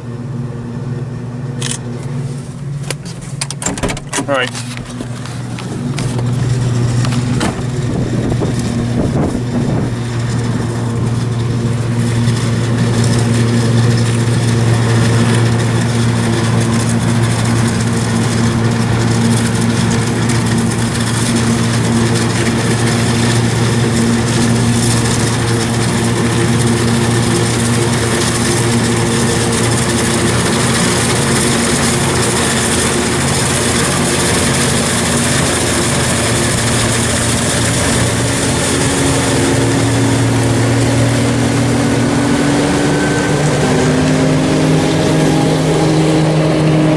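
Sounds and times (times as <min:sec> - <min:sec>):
farm vehicle engine running: 0:00.0 - 0:46.9.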